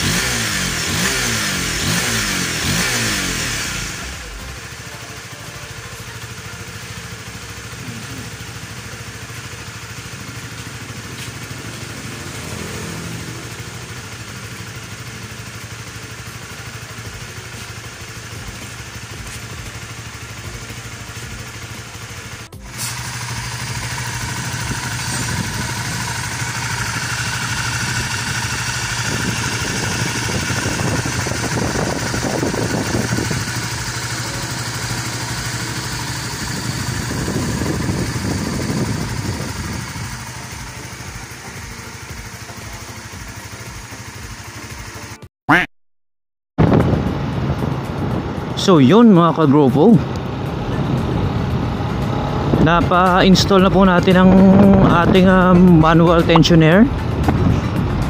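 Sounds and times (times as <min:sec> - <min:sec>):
motorcycle engine idling: 0:00.0 - 0:45.7, 0:46.6 - 0:58.0.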